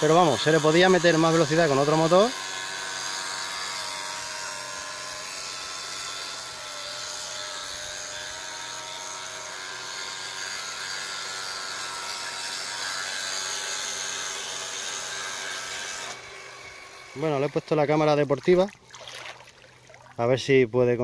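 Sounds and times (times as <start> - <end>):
toy boat motors whining: 0.0 - 20.0.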